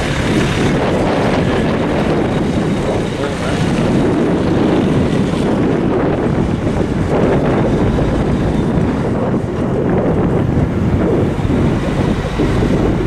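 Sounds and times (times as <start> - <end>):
heavy truck engine driving away: 0.0 - 13.0
wind buffeting microphone: 0.0 - 13.0.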